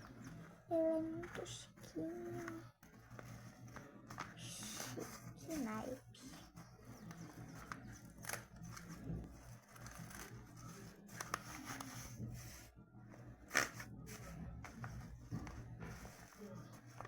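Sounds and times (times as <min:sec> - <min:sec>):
paper and plastic bags rustling: 0:00.0 - 0:17.0.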